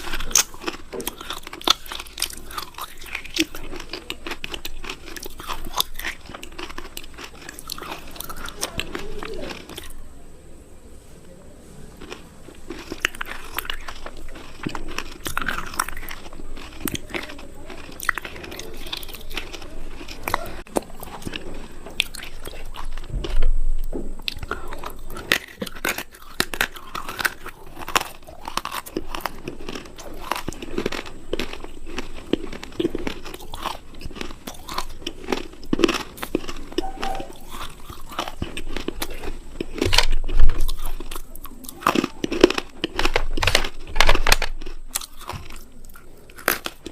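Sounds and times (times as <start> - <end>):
person crunching something brittle: 0.0 - 10.1, 11.9 - 46.9.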